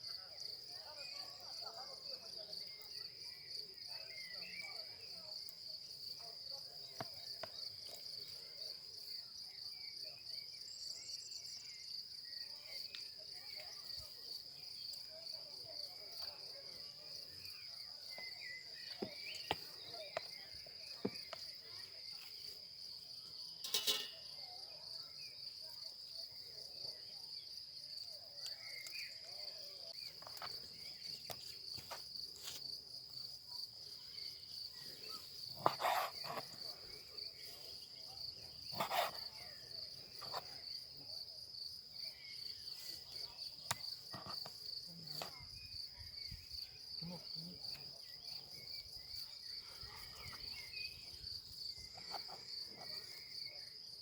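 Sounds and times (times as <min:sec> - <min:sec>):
insects chirring: 0:00.4 - 0:54.0.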